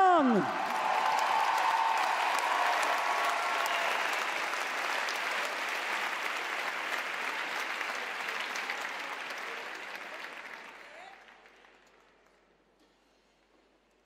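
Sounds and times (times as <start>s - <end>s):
audience applauding: 0.2s - 12.4s.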